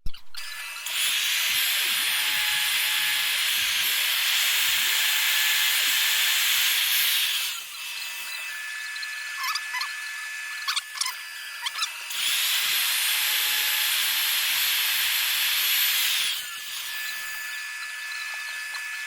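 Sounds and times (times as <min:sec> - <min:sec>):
grinding wheel hissing on steel: 0:00.6 - 0:19.0.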